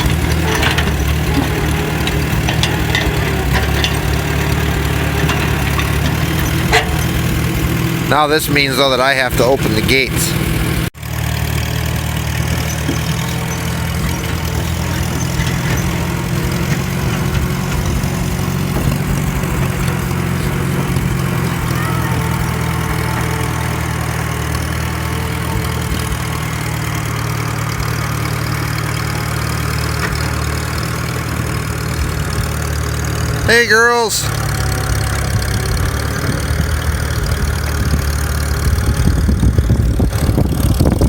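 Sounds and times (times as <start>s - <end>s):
farm vehicle engine idling: 0.0s - 41.0s.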